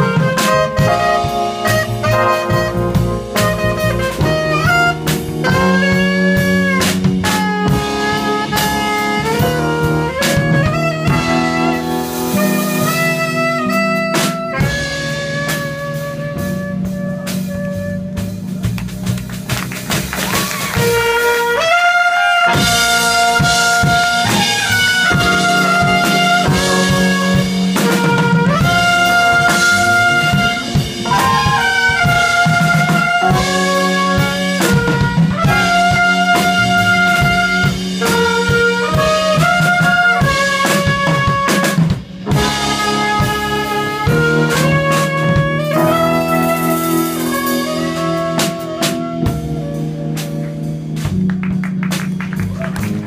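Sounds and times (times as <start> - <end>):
drums: 0.0 - 53.0
saxophone melody: 0.0 - 53.0
trumpet: 0.0 - 53.0.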